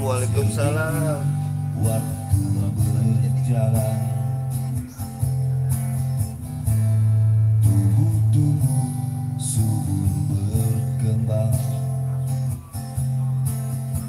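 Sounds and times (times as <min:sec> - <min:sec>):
guitar: 0:00.0 - 0:14.0
heavy bass line: 0:00.0 - 0:14.0.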